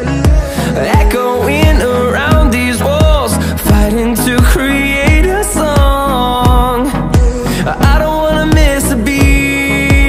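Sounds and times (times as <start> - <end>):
pop music: 0.0 - 10.0.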